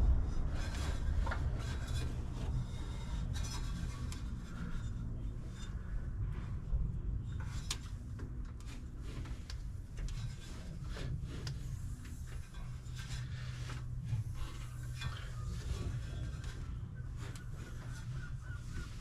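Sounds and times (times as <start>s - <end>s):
steady low hum: 0.0s - 19.0s
hands rubbing and scraping on engine: 0.1s - 19.0s.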